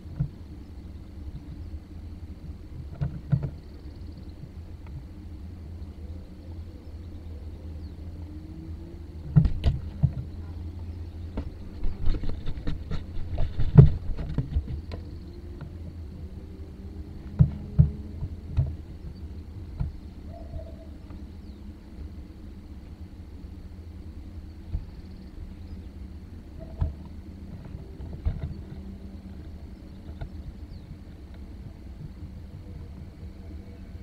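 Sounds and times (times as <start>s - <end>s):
faint rising drone: 0.0s - 34.0s
steady low hum: 0.0s - 34.0s.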